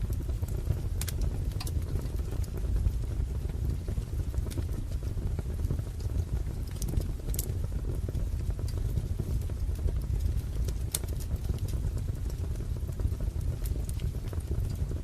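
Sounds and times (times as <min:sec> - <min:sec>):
fire crackling and popping: 0:00.0 - 0:15.0
flames rumbling: 0:00.0 - 0:15.0.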